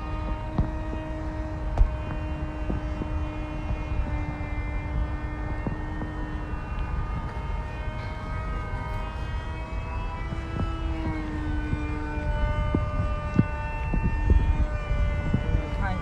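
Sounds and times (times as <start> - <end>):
low rumble: 0.0 - 16.0
model airplane motor whining: 0.0 - 16.0.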